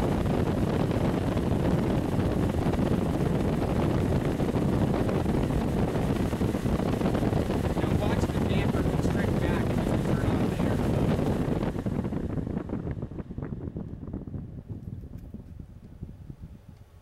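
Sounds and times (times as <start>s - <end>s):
duct fan air rush: 0.0s - 17.0s.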